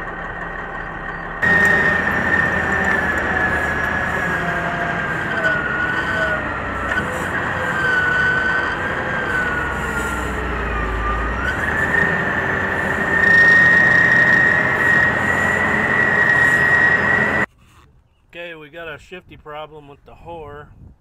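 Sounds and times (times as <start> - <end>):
scraper engines with high whine: 0.0 - 17.5.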